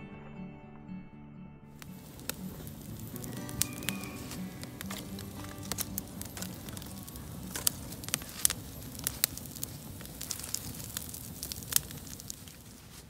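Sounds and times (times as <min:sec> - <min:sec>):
campfire crackling and popping: 0:01.7 - 0:13.0.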